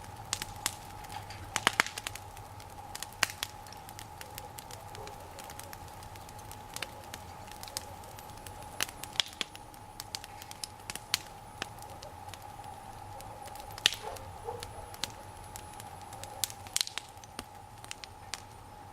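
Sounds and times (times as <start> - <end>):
bonfire crackling and popping: 0.0 - 18.9.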